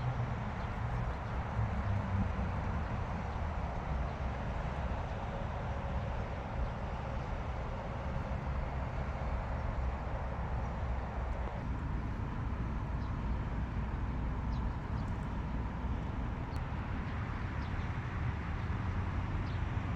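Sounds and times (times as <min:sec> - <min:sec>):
low background rumble: 0:00.0 - 0:19.9.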